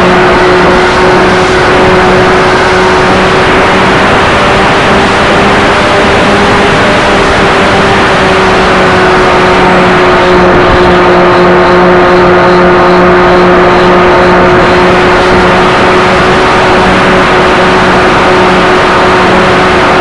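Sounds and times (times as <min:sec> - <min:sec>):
model plane propeller drone: 0:00.0 - 0:20.0.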